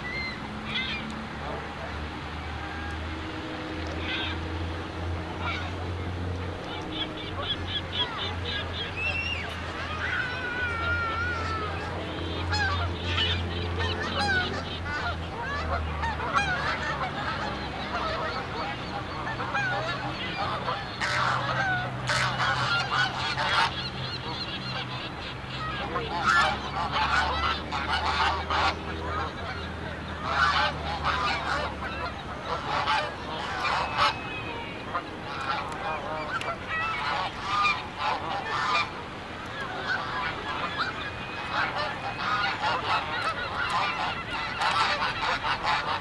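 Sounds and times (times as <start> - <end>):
geese honking: 0.0 - 3.0, 3.8 - 46.0.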